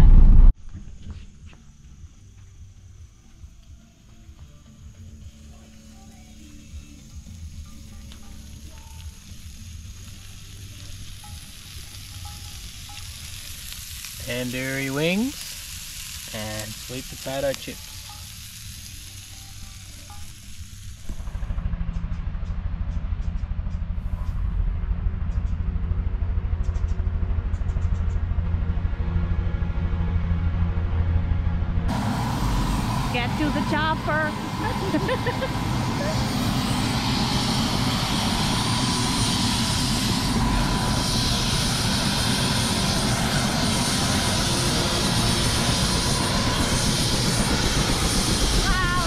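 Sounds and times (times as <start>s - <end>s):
vehicle engine low rumble: 0.0s - 49.0s.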